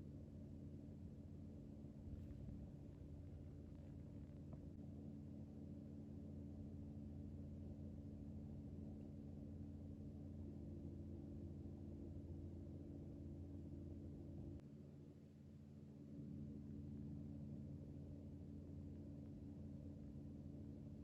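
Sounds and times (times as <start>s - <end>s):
faint electrical hum: 0.0s - 21.0s.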